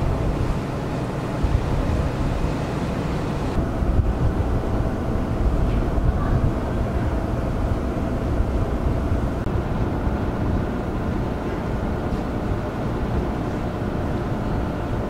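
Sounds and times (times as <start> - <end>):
faint machinery hum: 0.0 - 15.0
ship engines rumbling: 0.0 - 15.0
water rushing along hull: 0.0 - 15.0.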